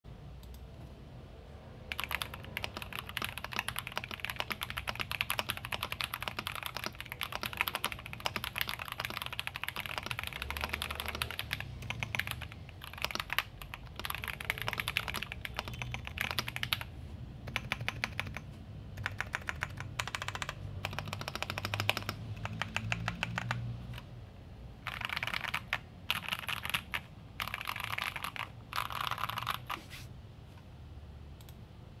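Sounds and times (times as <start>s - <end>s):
typing on mechanical keyboard: 1.9s - 16.9s, 17.5s - 24.1s, 24.8s - 29.8s.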